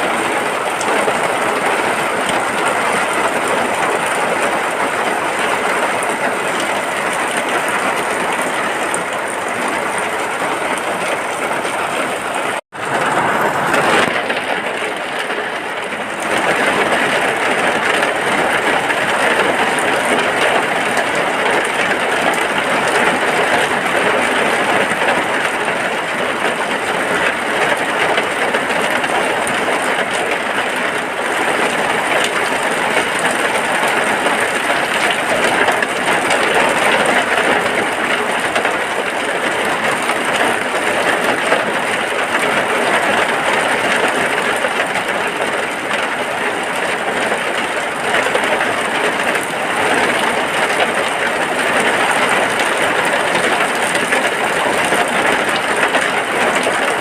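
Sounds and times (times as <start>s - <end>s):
rain falling on a hut: 0.0s - 57.0s.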